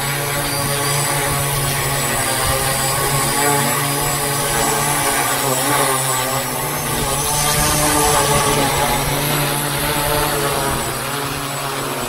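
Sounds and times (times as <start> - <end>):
drone propellers buzzing hum: 0.0 - 12.0.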